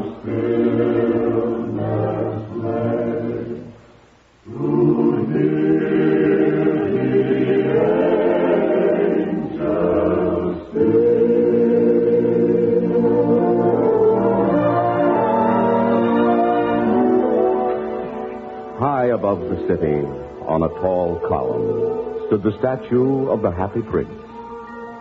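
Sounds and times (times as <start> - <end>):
choir singing held chords: 0.0 - 25.0.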